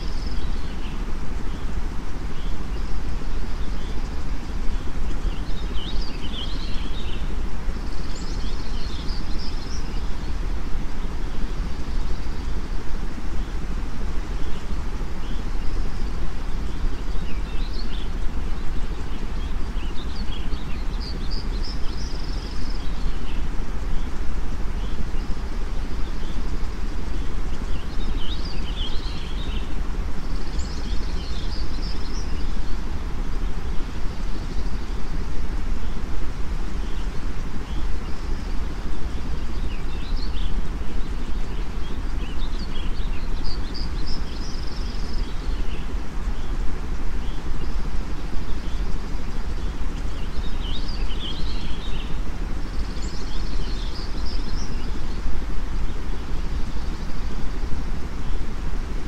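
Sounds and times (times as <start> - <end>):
birds chirping: 0.0 - 59.0
white-noise rush: 0.0 - 59.0.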